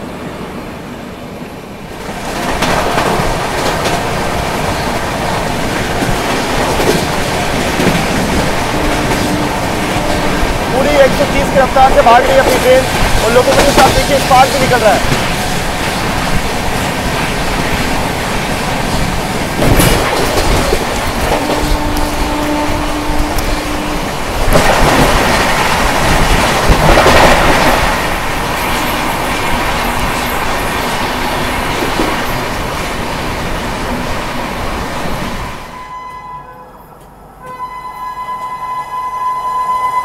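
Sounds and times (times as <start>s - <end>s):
passing train: 0.0s - 40.0s
train rushing and clattering: 0.0s - 40.0s.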